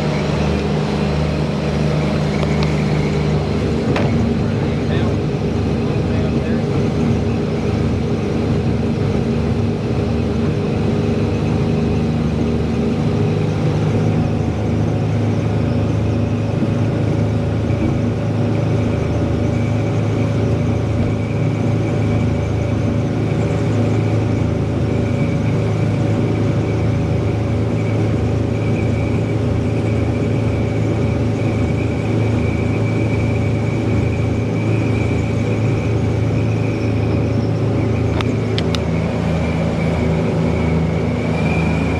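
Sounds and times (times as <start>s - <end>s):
boat engines humming: 0.0s - 41.9s.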